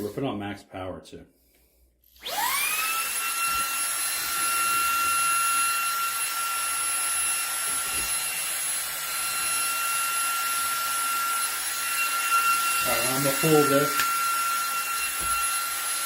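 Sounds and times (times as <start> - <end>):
vacuum motor whine: 2.2 - 16.0.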